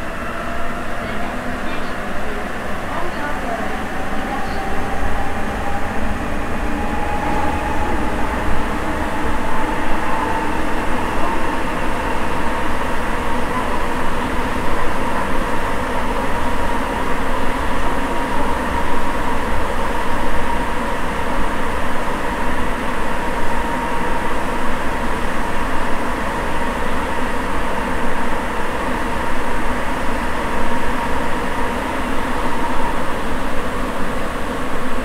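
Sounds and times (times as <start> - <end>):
constant train whine: 0.0 - 35.0
train running rumble: 0.0 - 35.0.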